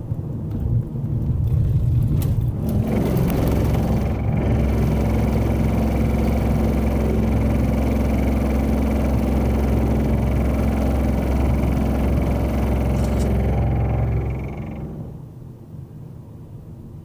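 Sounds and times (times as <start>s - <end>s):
car driving low rumble: 0.0s - 16.6s
constant hum: 0.0s - 17.0s.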